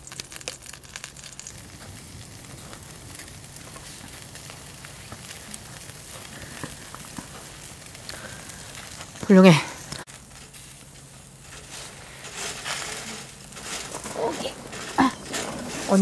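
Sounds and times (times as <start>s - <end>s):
charcoal grill sizzling: 0.0s - 16.0s.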